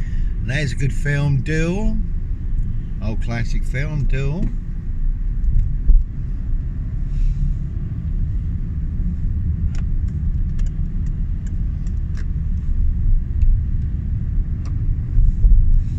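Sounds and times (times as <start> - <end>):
road vehicle rumble: 0.0 - 15.9.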